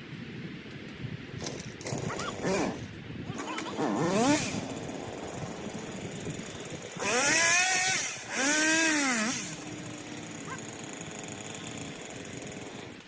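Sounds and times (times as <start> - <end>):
chainsaw revving: 1.9 - 13.0.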